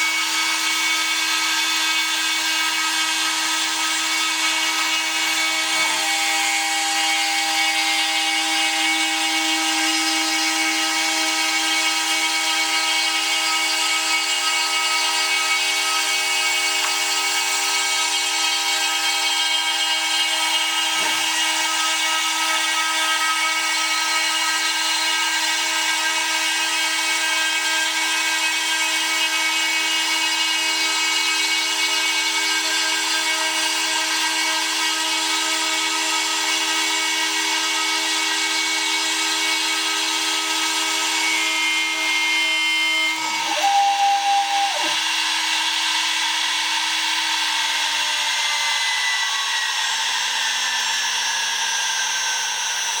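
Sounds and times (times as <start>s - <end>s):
router spindle whine milling metal: 0.0s - 53.0s.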